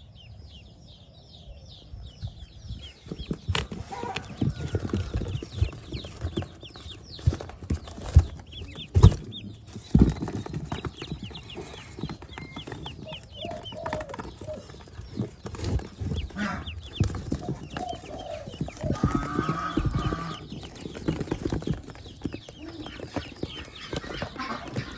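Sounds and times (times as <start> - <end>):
duckling peeping: 2.2 - 24.9.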